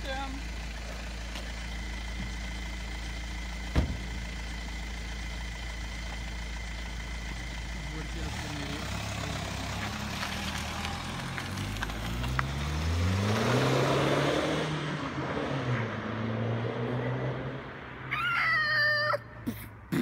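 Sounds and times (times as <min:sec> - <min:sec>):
diesel car accelerating past: 0:00.5 - 0:18.1.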